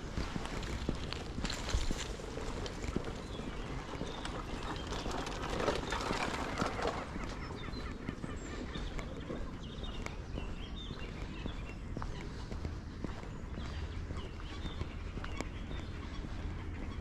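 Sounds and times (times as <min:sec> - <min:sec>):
birds chirping: 0:00.0 - 0:17.0
footsteps on path: 0:00.0 - 0:17.0.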